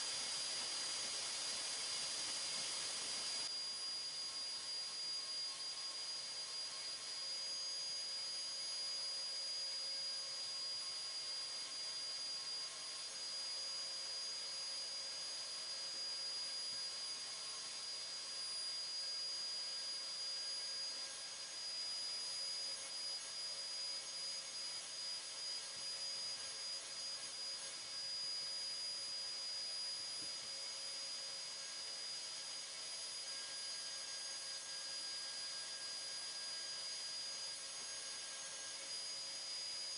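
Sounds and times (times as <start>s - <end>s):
vacuum whining and hissing: 0.0s - 39.9s.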